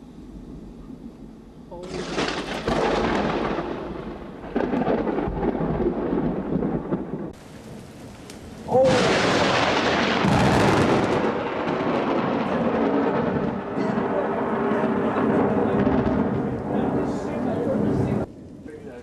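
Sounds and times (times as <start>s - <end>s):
thunder rumbling: 0.0s - 19.0s
steady rain: 0.6s - 19.0s.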